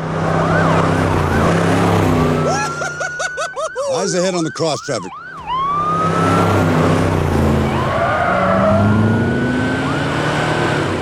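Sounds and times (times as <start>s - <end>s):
emergency vehicle siren wailing: 0.0s - 11.0s
vehicle engine and road noise: 0.0s - 11.0s.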